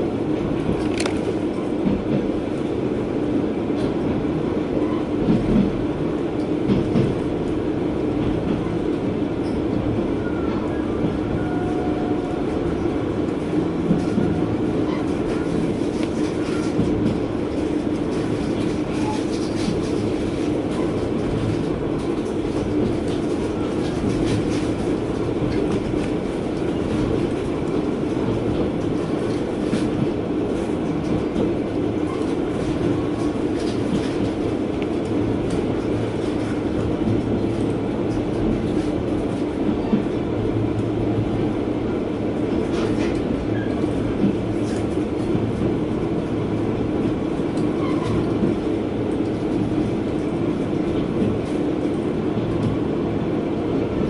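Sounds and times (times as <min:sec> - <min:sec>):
railcar engine and wheels rumbling: 0:00.0 - 0:54.0.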